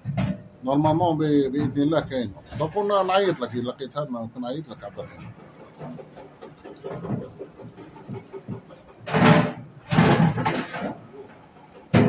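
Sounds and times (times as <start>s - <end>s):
metal casing scraping clatter: 0.0s - 12.0s.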